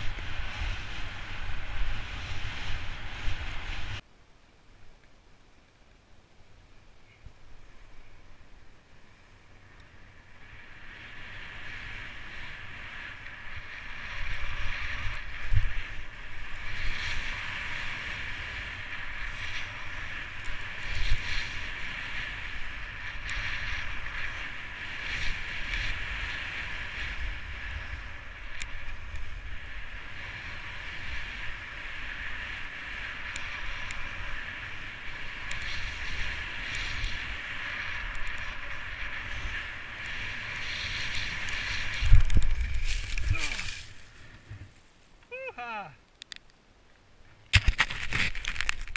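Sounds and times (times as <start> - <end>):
skis scraping over snow: 0.0 - 4.0, 8.9 - 45.2, 47.4 - 48.9
wind rumbling on microphone: 0.0 - 4.0, 6.6 - 45.5, 47.3 - 48.9.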